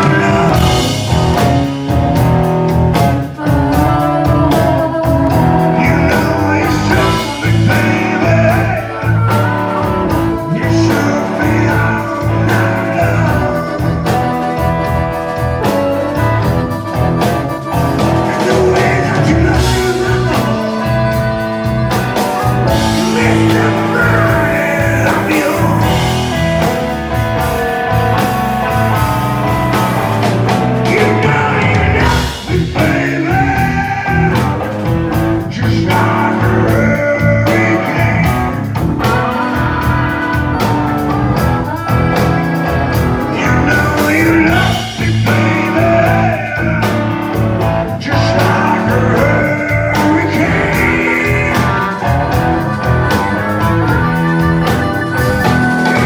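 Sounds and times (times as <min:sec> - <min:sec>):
blues-rock band playing: 0:00.0 - 0:56.0
wailing blues harmonica: 0:00.0 - 0:56.0.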